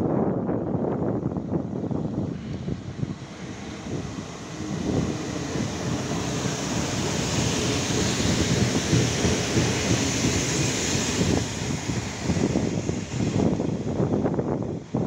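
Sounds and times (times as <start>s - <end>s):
train wheels rumbling on rail: 0.2s - 15.0s
hiss: 2.4s - 14.4s.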